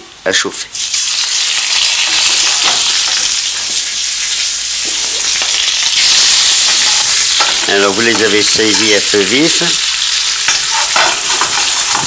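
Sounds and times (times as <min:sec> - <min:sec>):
kidney sizzling in hot oil: 0:00.7 - 0:12.0.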